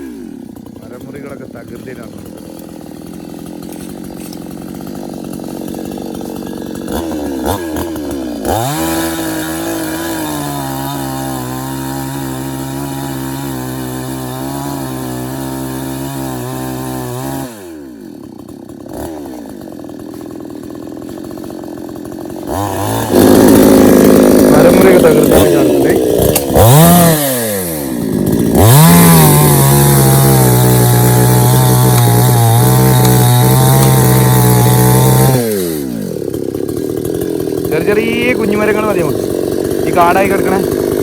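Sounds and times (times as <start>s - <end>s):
chainsaw cutting into tree: 0.0s - 41.0s.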